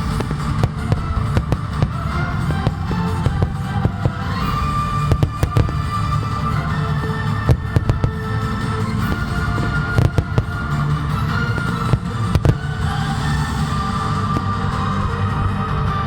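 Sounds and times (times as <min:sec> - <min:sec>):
fireworks banging: 0:00.0 - 0:16.0
music with long held tones: 0:00.0 - 0:16.0.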